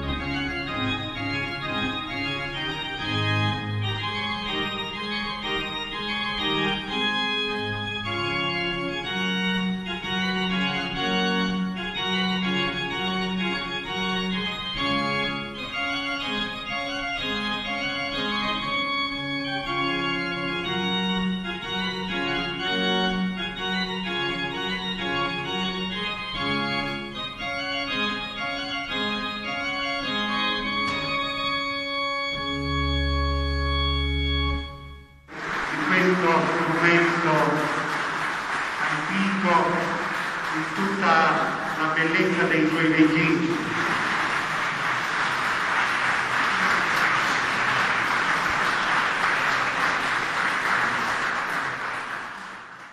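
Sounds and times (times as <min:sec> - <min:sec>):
pipe organ playing: 0:00.0 - 0:52.9.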